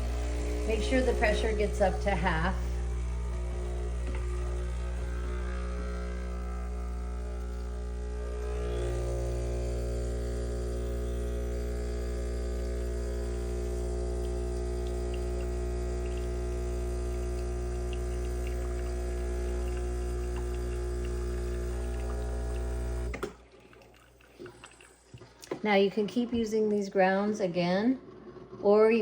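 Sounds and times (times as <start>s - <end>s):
espresso machine pump humming: 0.0s - 26.4s.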